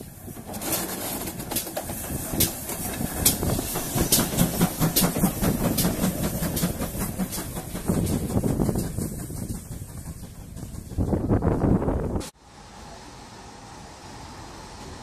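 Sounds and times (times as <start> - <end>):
steam locomotive rumble and hiss: 0.0 - 15.0.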